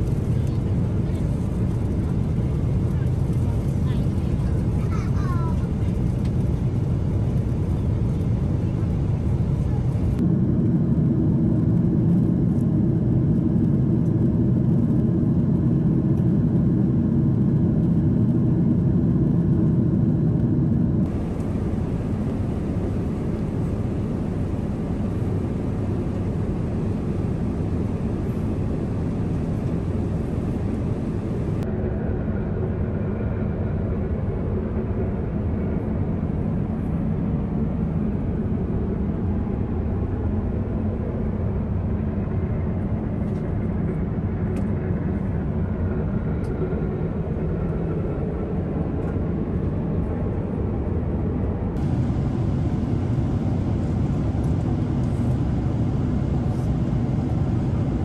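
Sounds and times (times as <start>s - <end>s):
airplane cabin engine rush: 0.0s - 58.0s.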